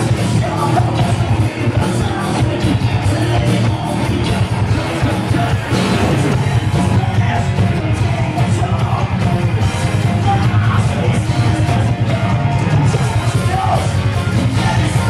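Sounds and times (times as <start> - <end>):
bass: 0.0 - 15.0
distorted electric guitars: 0.0 - 15.0
rapid drumming: 0.0 - 15.0.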